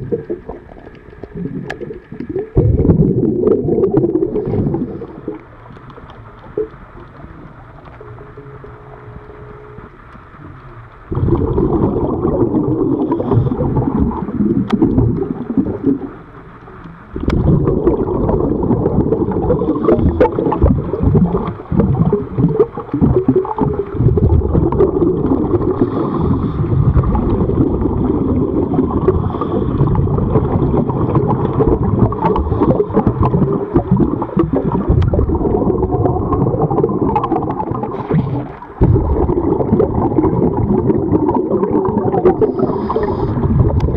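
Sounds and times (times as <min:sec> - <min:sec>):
underwater rumble and gurgling bubbles: 0:00.0 - 0:43.9.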